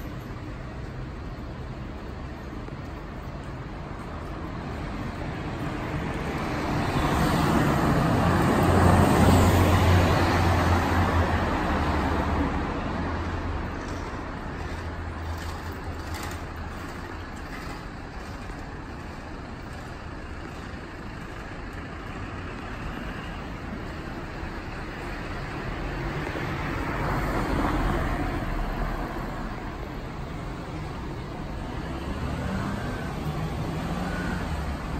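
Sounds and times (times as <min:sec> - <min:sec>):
street traffic noise: 0:00.0 - 0:34.9
vehicle engine hum passing: 0:04.0 - 0:34.9.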